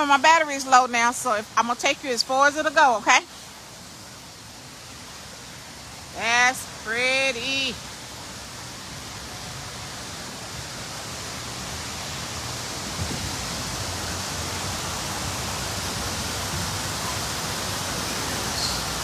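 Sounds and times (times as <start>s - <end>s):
indoor waterfall rushing: 0.0s - 19.0s.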